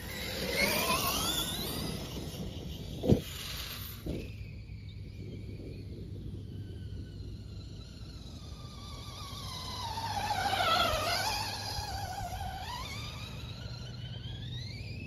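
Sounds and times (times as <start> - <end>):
electric motor whining: 0.0 - 4.4, 6.4 - 15.0.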